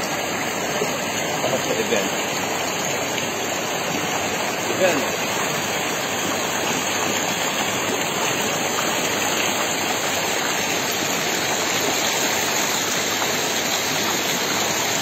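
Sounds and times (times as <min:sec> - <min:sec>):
river rushing over boulders: 0:00.0 - 0:15.0.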